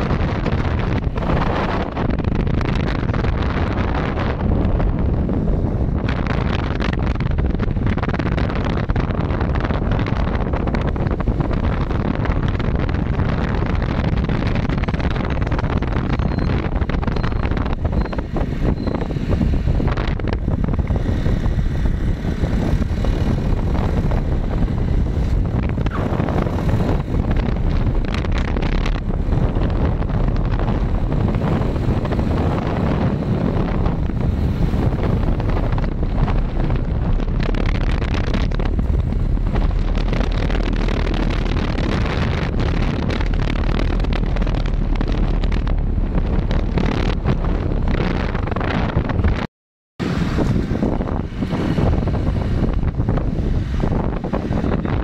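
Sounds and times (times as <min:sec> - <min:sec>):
vehicle running: 0:00.0 - 0:49.3, 0:50.0 - 0:55.0
wind buffeting microphone: 0:00.0 - 0:55.0.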